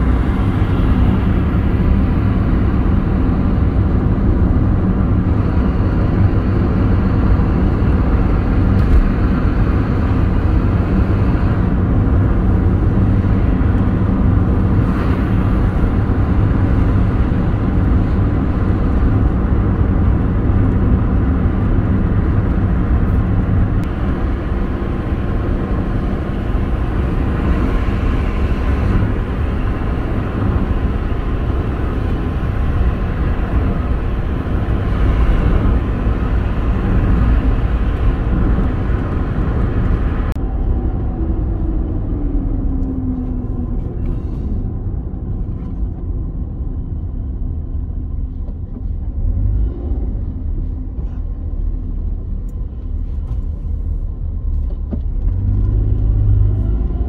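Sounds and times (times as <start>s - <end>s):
car road noise from inside cabin: 0.0s - 57.0s.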